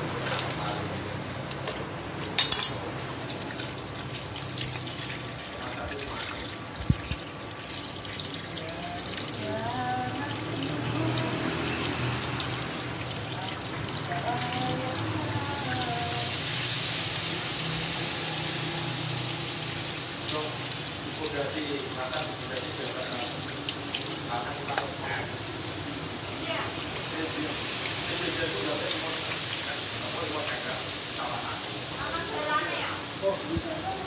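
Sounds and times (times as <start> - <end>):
running water pouring: 3.2 - 34.0.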